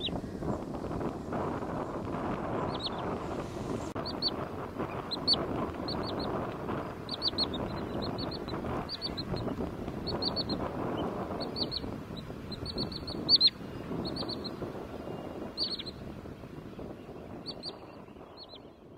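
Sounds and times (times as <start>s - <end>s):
sandpiper calling: 0.0s - 0.6s, 2.3s - 3.2s, 3.9s - 16.2s, 16.8s - 18.8s
low background rumble: 0.0s - 18.9s.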